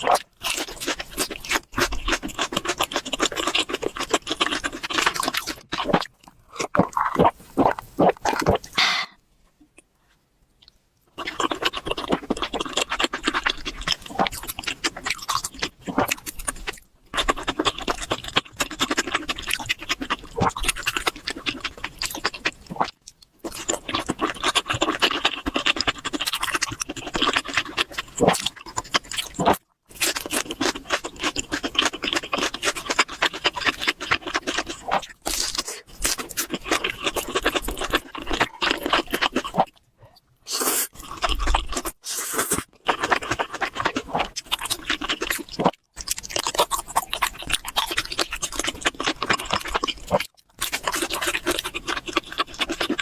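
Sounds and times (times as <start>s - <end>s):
wet chewing and biting: 0.0s - 9.0s, 10.6s - 53.0s.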